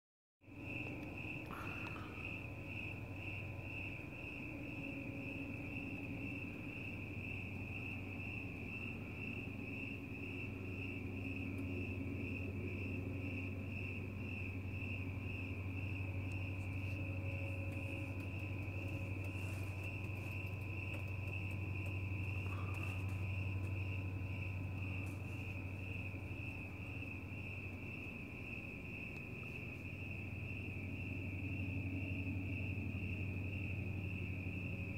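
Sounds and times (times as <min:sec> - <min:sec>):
crickets chirping: 0:00.5 - 0:34.9
low steady hum: 0:00.5 - 0:34.9.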